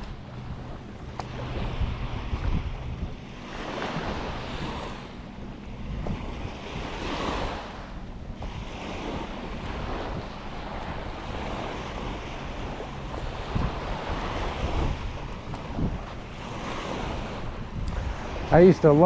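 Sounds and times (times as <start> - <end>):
ocean surf breaking: 0.0 - 19.0
wind rumbling on microphone: 0.0 - 19.0.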